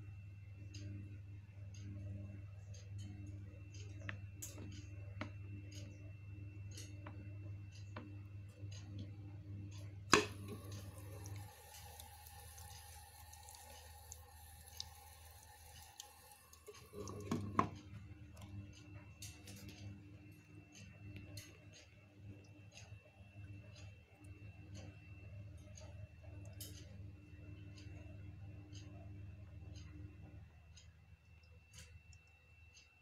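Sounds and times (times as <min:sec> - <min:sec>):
faint steady tones: 0:00.0 - 0:33.0
humidifier humming: 0:00.0 - 0:33.0
clicks and drip-like ticks: 0:00.4 - 0:33.0.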